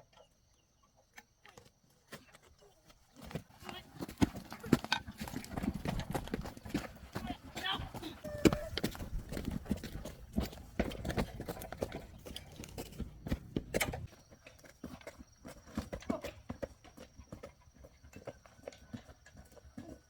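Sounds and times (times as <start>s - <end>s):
irregular knocks and clatter: 2.3s - 19.7s.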